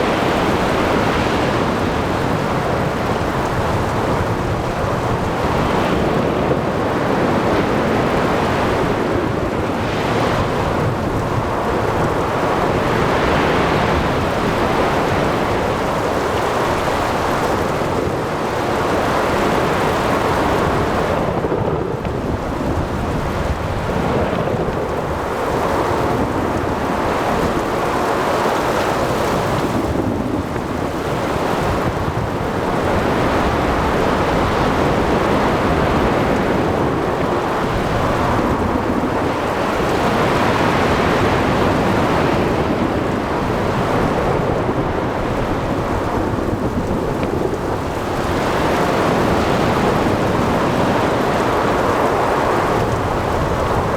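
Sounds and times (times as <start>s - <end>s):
heavy rain: 0.0s - 53.9s
wind: 0.0s - 53.9s.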